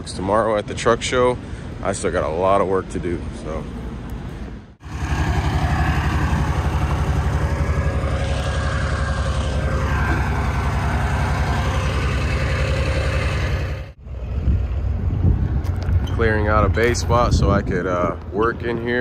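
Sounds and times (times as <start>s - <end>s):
diesel truck engine running: 3.6s - 18.9s.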